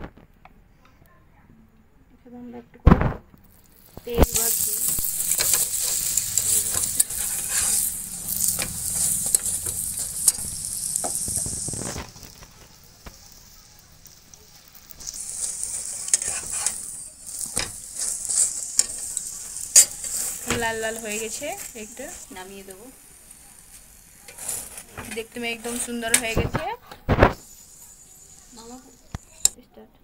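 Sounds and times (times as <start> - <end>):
flatbread sizzling in a pan: 3.3 - 29.6.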